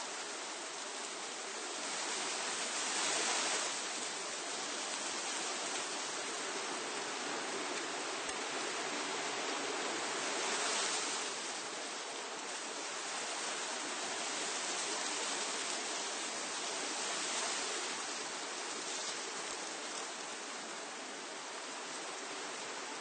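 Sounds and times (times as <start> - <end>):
wind rustling leaves: 0.0 - 23.0.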